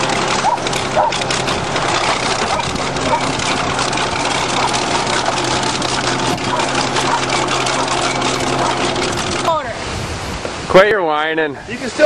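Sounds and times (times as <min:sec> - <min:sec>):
dense crackling noise: 0:00.0 - 0:09.7
heavy engine running: 0:00.0 - 0:09.8.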